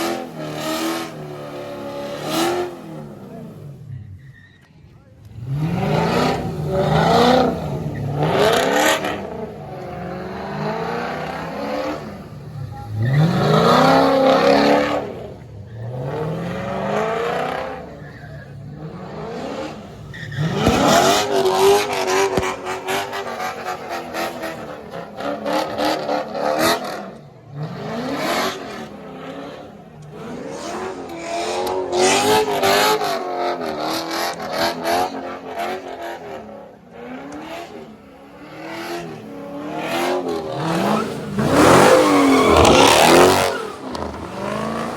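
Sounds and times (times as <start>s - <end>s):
car engines revving hard: 0.0s - 4.2s, 5.1s - 44.9s.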